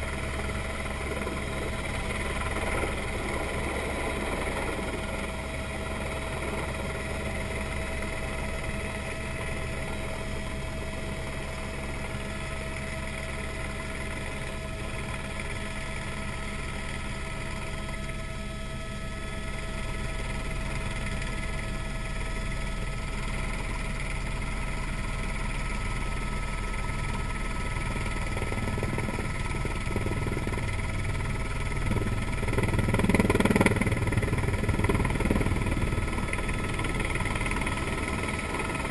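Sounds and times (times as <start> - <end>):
helicopter engine and rotor noise: 0.0 - 38.9
steady whining tones: 0.0 - 38.9.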